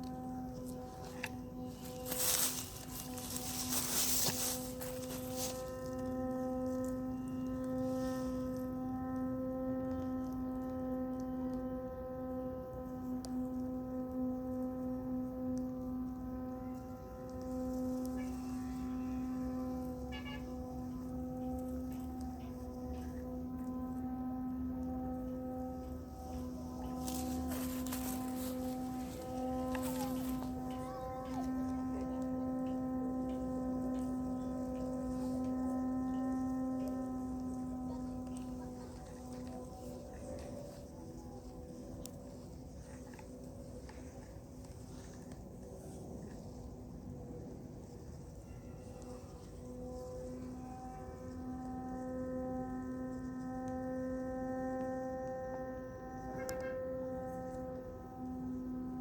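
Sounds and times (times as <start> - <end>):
kite flute low hooting tone: 0.0 - 59.0.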